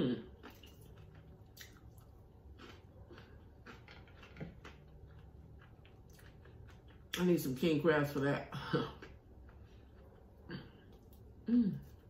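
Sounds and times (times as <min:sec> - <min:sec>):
chewing food: 0:00.2 - 0:12.0.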